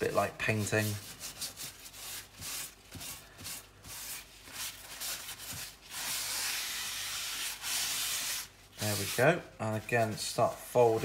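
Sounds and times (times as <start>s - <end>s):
paper towel wiping cast iron griddle: 0.4s - 11.0s.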